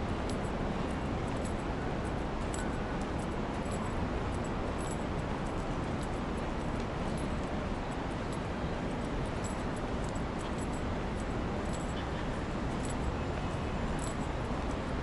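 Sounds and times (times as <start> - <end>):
steady rushing outdoor noise: 0.0 - 15.0
faint light ticks: 0.2 - 14.3.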